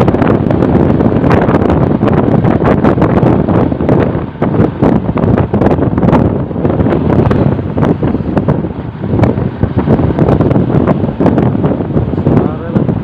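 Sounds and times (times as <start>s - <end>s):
vehicle and road noise: 0.0s - 13.0s
wind buffeting microphone: 0.0s - 13.0s.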